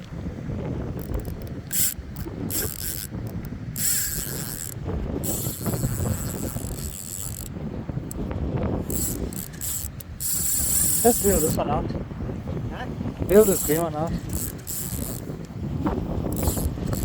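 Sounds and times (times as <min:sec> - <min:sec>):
wind rumble on microphone: 0:00.0 - 0:17.0
fishing reel whirring and ratcheting: 0:01.0 - 0:11.7, 0:13.3 - 0:15.5, 0:16.2 - 0:17.0.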